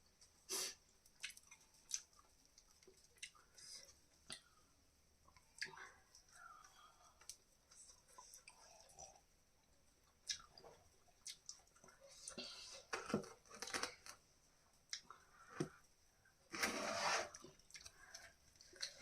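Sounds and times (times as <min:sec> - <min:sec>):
chewing and crunching food: 0:00.1 - 0:14.2, 0:17.4 - 0:19.0.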